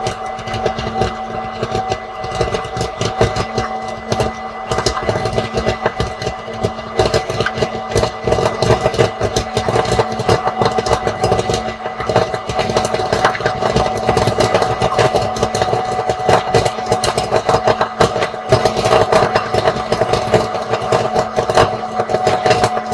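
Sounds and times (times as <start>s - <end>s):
popcorn kernels popping: 0.0s - 22.9s
popcorn machine motor hum: 0.0s - 22.9s.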